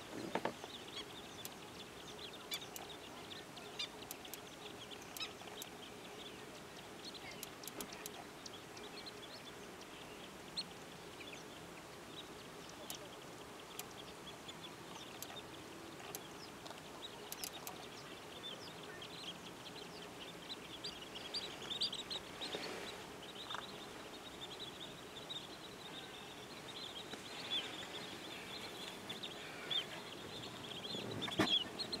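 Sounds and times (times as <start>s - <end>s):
birds chirping: 0.0s - 32.0s
outdoor background hiss: 0.0s - 32.0s.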